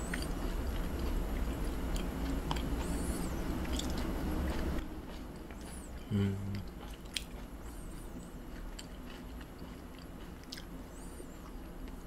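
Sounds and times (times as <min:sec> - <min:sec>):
person chewing wetly: 0:00.0 - 0:12.0.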